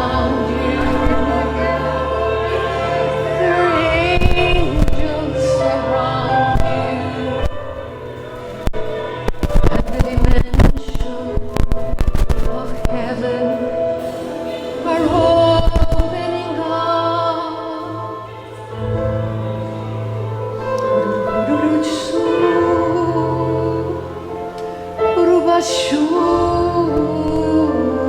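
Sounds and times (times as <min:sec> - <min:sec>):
people singing: 0:00.0 - 0:28.0
sustained chords: 0:00.0 - 0:28.0.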